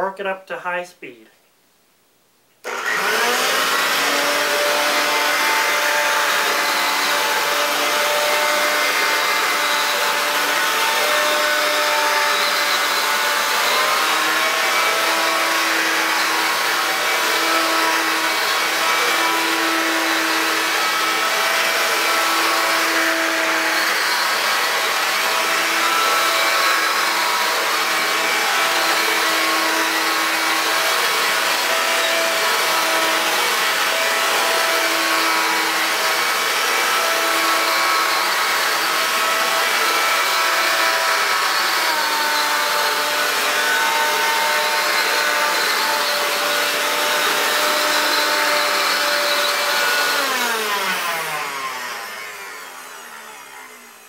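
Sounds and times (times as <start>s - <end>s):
vacuum cleaner motor whine: 2.6s - 54.0s.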